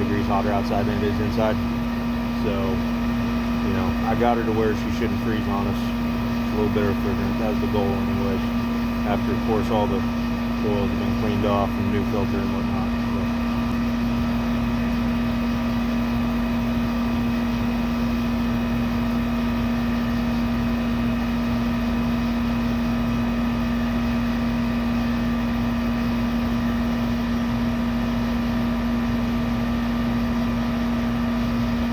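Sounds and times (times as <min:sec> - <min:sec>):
air conditioner humming: 0:00.0 - 0:31.9.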